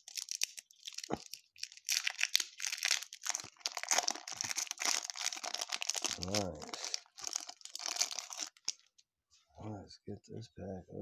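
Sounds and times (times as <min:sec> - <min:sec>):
wax paper wrapper crinkling: 0:00.0 - 0:09.0.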